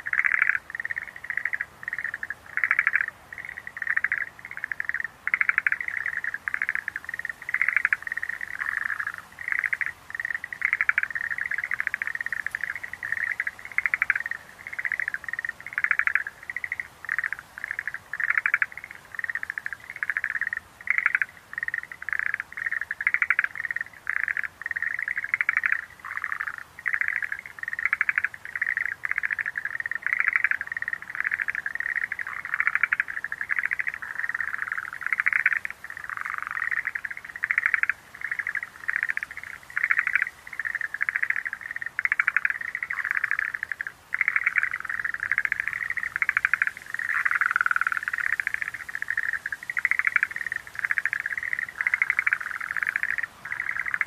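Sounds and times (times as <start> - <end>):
tree frogs calling: 0.0 - 54.0.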